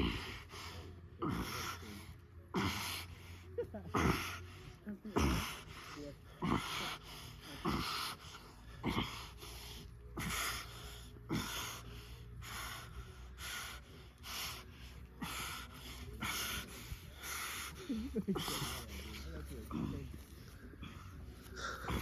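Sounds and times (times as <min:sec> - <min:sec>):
heavy breathing: 0:00.0 - 0:22.0
low steady hum: 0:00.0 - 0:22.0.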